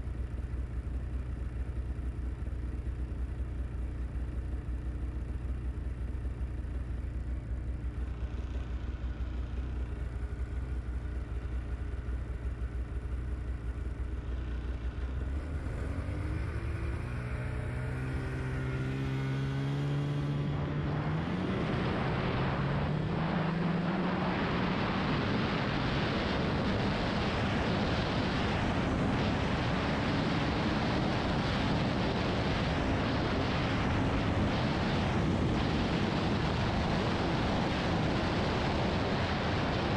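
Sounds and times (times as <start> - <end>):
snowmobile engine idling and revving: 0.0 - 39.9.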